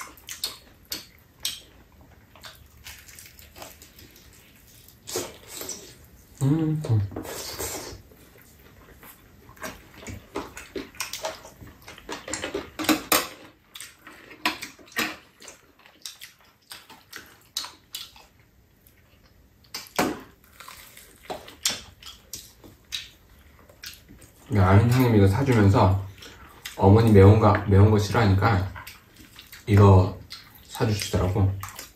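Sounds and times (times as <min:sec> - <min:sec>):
people chewing and smacking: 0:00.0 - 0:31.9.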